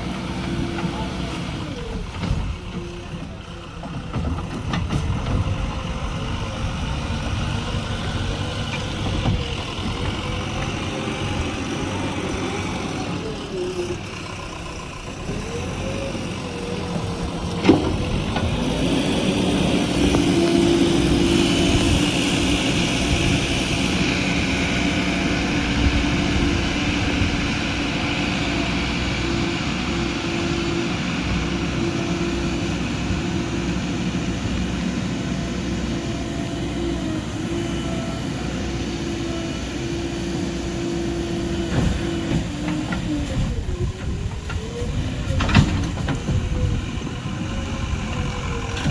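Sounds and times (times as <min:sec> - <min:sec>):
heavy vehicle engine running: 0:00.0 - 0:48.9.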